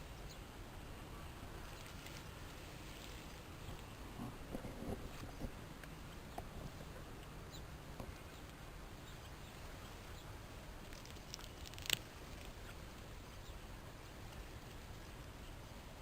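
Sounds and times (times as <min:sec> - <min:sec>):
low steady hum: 0:00.0 - 0:16.0
guinea pigs ticks and rustles: 0:01.4 - 0:15.7.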